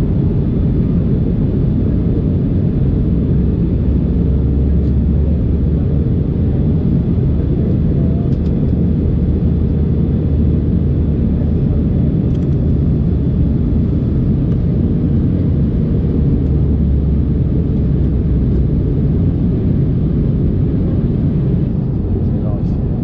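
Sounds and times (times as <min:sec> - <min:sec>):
aircraft cabin engine drone: 0:00.0 - 0:23.0.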